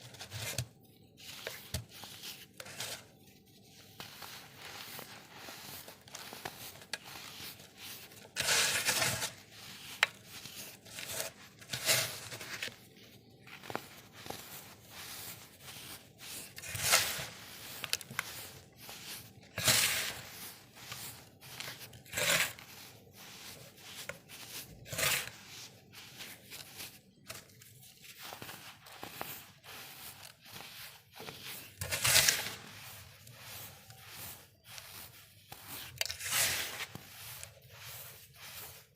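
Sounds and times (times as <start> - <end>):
baking soda chunks crunching: 3.7 - 38.9.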